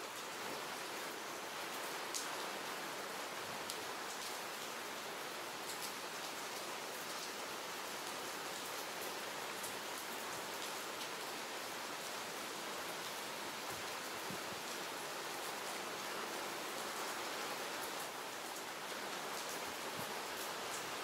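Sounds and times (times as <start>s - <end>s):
light rain on hard surface: 0.0s - 21.0s.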